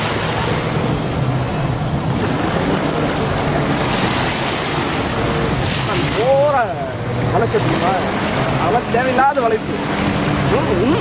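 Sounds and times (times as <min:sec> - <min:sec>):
jet ski engine running: 0:00.0 - 0:11.0
sea waves: 0:00.0 - 0:11.0.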